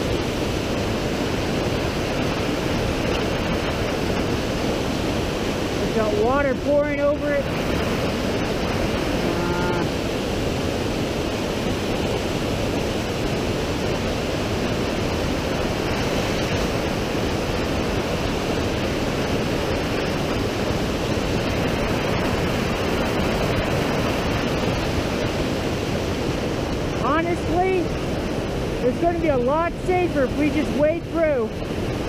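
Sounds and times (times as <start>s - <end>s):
creek rushing over boulders: 0.0s - 32.0s.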